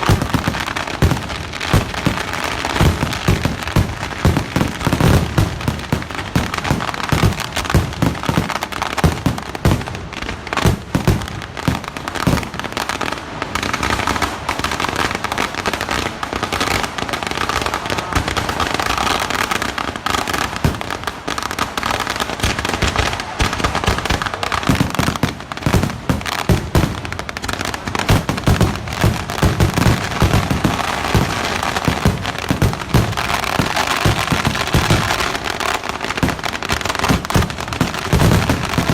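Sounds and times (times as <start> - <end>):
firecracker bangs and crackling: 0.0 - 38.9.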